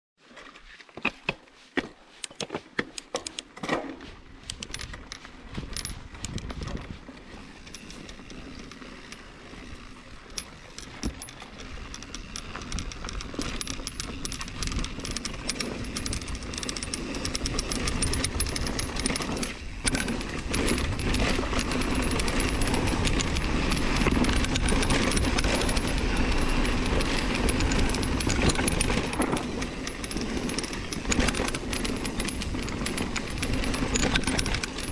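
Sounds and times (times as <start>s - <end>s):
wind and tyre noise: 0.2s - 34.9s
bike chain and frame rattling: 4.1s - 34.9s.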